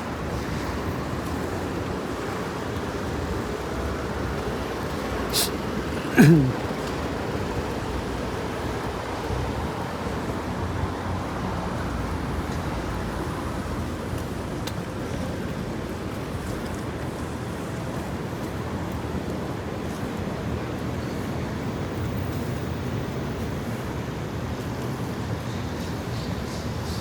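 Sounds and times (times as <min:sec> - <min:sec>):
traffic hissing on wet roads: 0:00.0 - 0:27.0.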